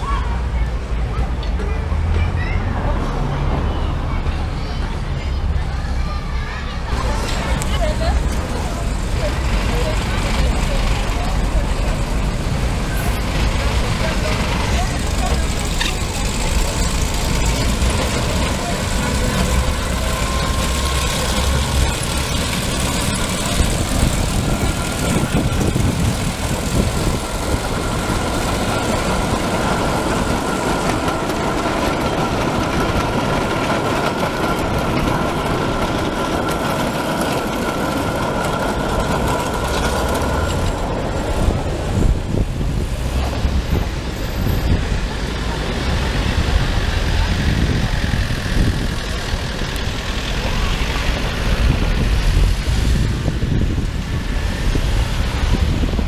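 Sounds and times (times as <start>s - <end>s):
small train engine running: 0.0s - 56.0s.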